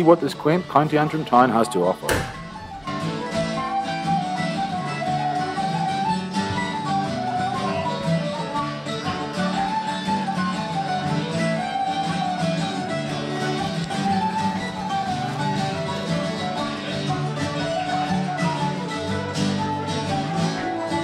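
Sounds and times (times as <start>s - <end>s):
instrumental guitar music: 0.0s - 21.0s.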